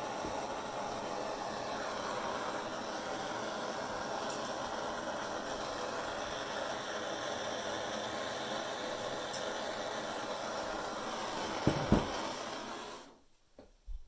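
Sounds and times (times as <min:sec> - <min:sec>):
gas torch flame hissing: 0:00.0 - 0:13.2.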